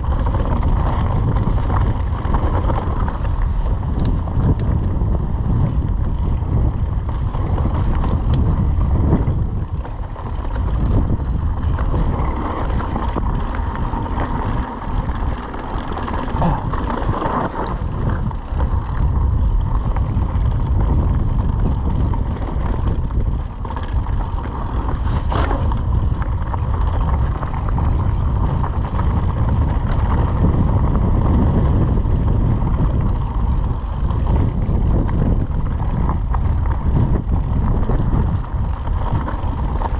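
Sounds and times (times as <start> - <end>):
bike knocking and rattling: 0.0 - 39.9
wind buffeting microphone: 0.0 - 39.9.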